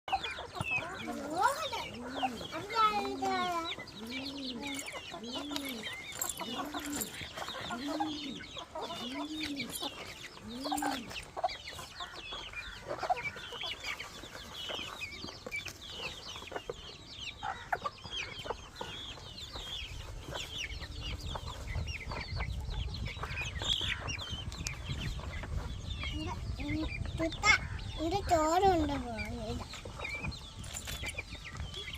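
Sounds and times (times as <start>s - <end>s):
chickens clucking: 0.1s - 31.9s.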